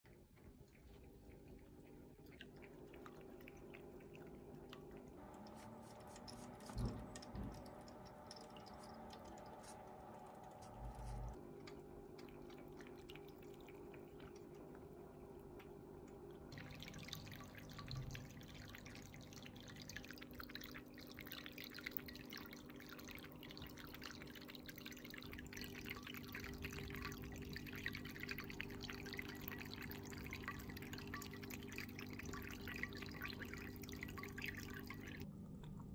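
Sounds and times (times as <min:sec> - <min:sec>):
cat lapping water: 0:00.0 - 0:35.9
low steady pump hum: 0:00.0 - 0:35.9
water trickling and dripping: 0:00.1 - 0:35.9.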